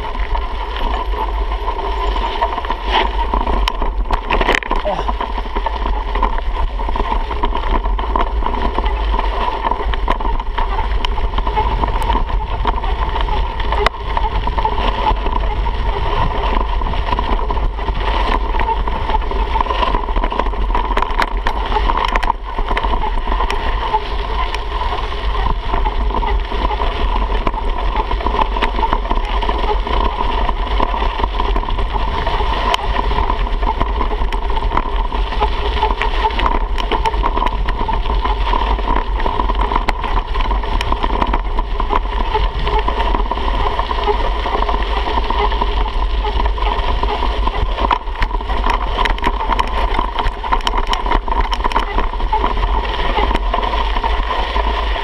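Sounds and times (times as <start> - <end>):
bike rattling over bumps: 0.0 - 55.0
wind buffeting microphone: 0.0 - 55.0.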